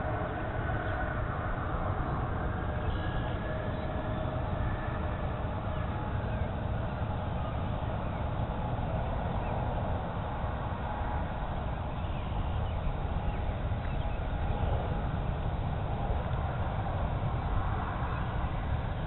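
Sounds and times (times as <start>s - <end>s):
distant jet engines rumbling: 0.0s - 19.0s
faint jet whine: 0.0s - 19.0s.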